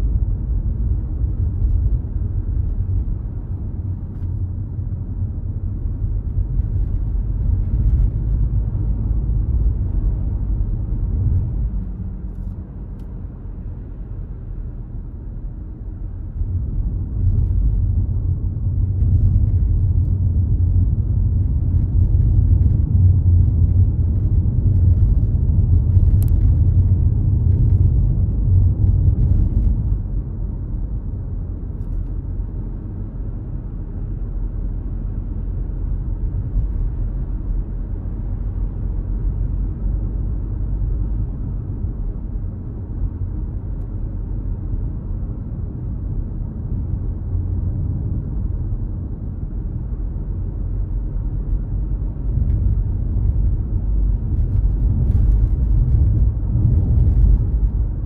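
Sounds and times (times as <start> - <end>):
car rumbling on road: 0.0 - 58.0.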